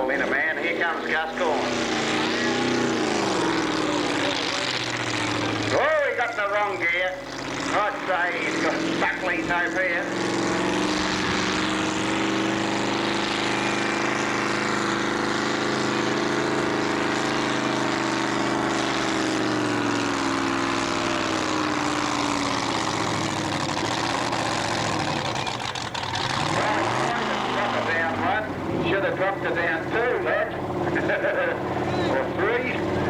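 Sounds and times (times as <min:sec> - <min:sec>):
tractor engine running under load: 0:00.0 - 0:33.0.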